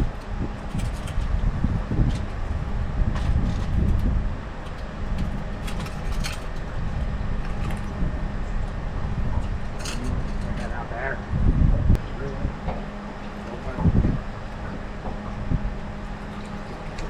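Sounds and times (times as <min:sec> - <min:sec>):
boat motor rumbling: 0:00.0 - 0:17.0
faint constant hum: 0:00.0 - 0:17.0
wind buffeting microphone: 0:00.0 - 0:17.0.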